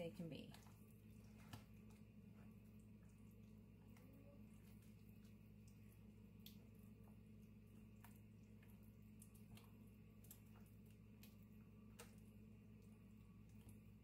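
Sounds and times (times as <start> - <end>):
batter squelching: 0.0 - 14.0
low room hum: 0.0 - 14.0.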